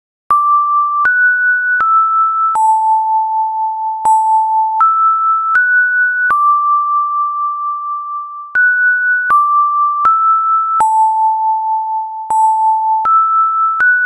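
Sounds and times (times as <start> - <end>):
phone ringtone beep melody: 0.3 - 14.0.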